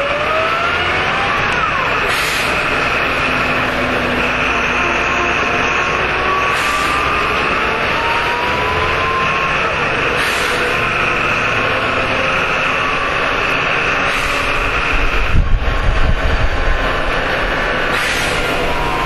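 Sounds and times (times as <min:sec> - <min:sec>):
bus engine and drivetrain noise: 0:00.0 - 0:19.0
road rumble: 0:00.0 - 0:19.0.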